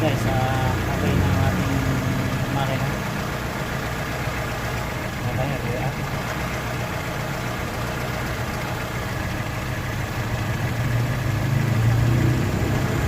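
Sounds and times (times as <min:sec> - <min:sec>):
engine idling steadily: 0:00.0 - 0:13.0.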